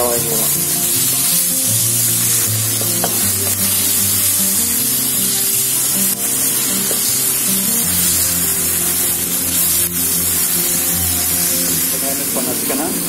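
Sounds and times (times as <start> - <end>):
background music: 0.0 - 13.0
onions sizzling in hot oil: 0.0 - 13.0.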